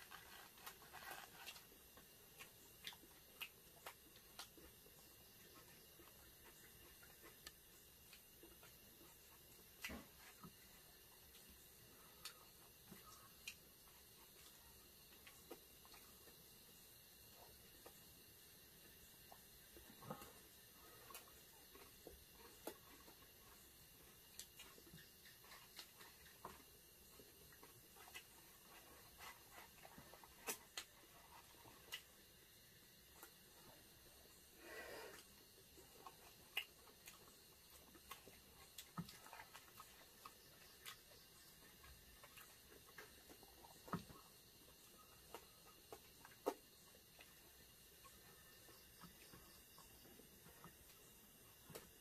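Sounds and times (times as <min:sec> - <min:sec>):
people chewing food: 0:00.0 - 0:52.0.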